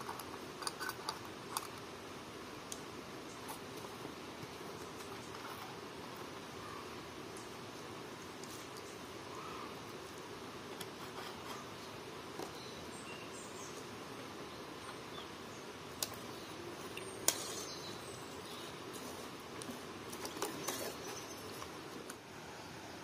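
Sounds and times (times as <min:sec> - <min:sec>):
low background hiss: 0:00.0 - 0:23.0.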